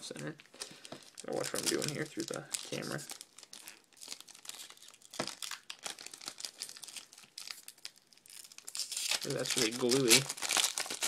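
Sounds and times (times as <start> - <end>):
wrapper crinkling and tearing: 0.6 - 11.0.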